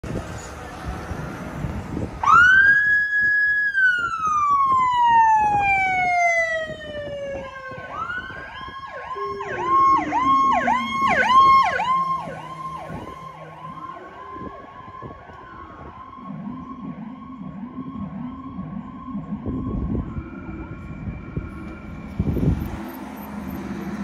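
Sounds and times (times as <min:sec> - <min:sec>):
siren yelping: 0:02.2 - 0:22.6
electronic siren wailing: 0:02.2 - 0:23.5
second siren: 0:02.2 - 0:23.5.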